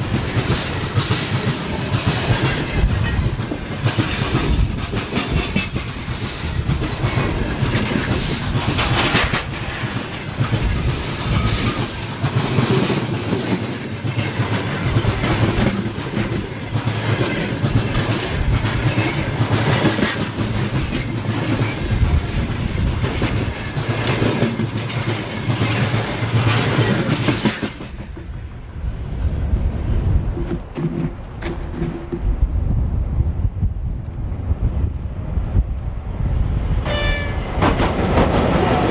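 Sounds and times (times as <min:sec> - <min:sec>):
wind on microphone: 0:00.0 - 0:12.9, 0:14.4 - 0:24.5, 0:25.4 - 0:38.9
freight train wheels clickety-clack: 0:00.0 - 0:38.9.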